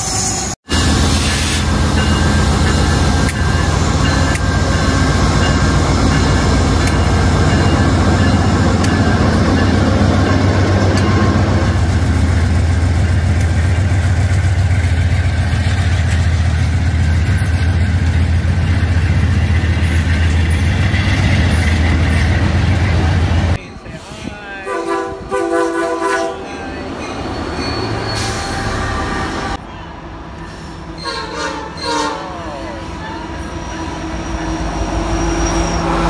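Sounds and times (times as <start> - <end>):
diesel locomotive engine drone: 0.0 - 36.0.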